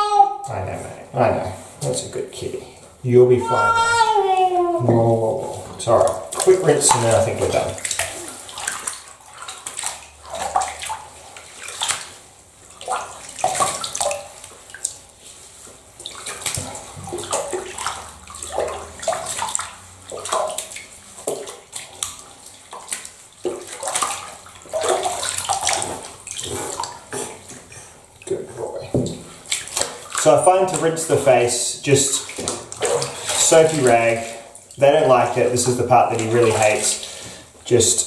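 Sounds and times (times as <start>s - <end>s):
bathwater splashing and pouring: 0.0s - 38.0s.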